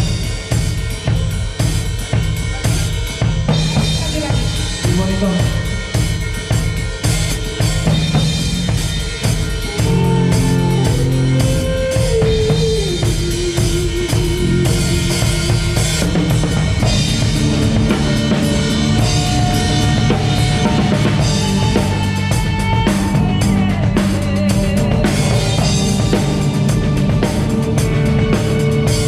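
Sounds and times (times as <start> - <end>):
bass line: 0.0 - 29.0
drum kit: 0.0 - 29.0
live band playing: 0.0 - 29.0.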